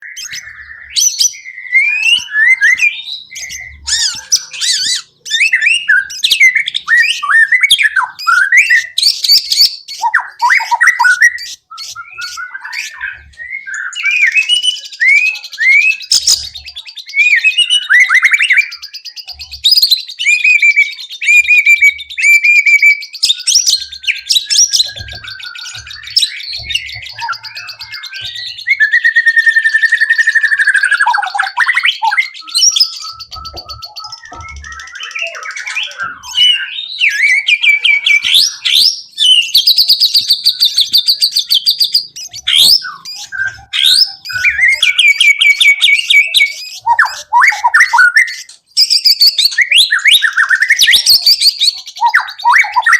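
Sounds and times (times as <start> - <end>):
songbird singing whistles and chirps: 0.0 - 52.9.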